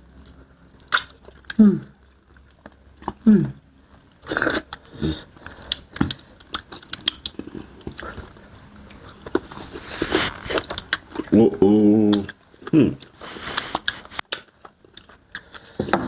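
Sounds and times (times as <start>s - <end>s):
close chewing and mouth smacks: 0.0s - 16.0s.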